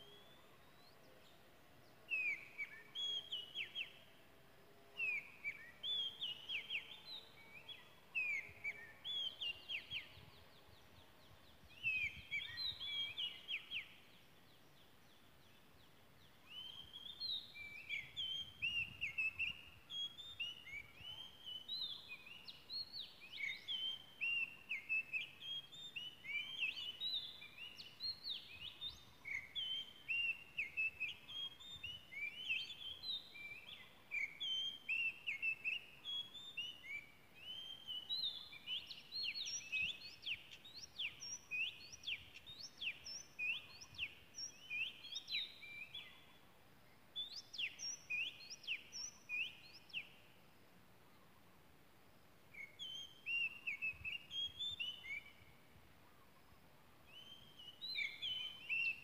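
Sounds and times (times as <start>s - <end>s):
bird singing whistled notes: 0.0s - 50.5s, 52.5s - 59.0s.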